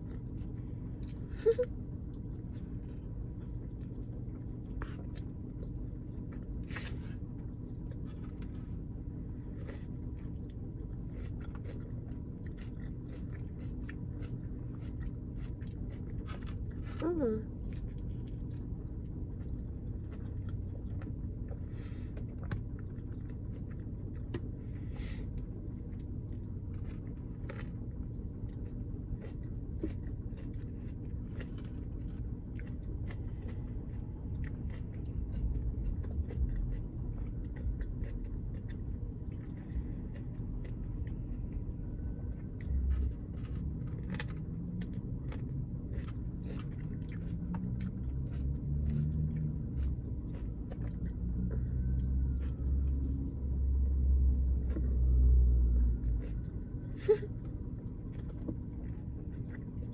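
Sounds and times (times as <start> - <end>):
person chewing food: 0.0 - 59.9
steady low hum: 0.0 - 59.9.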